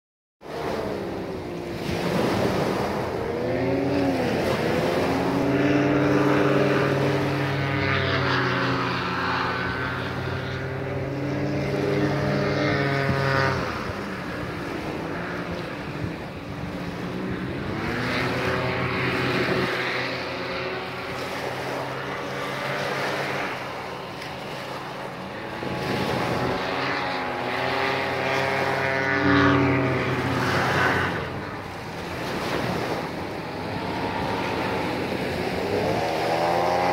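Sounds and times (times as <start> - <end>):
small engine droning: 0.4 - 36.9
wind noise: 0.5 - 36.9.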